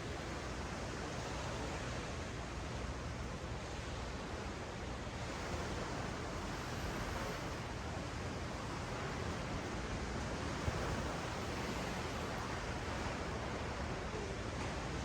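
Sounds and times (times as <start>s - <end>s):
ocean waves on sandy beach: 0.0s - 15.0s.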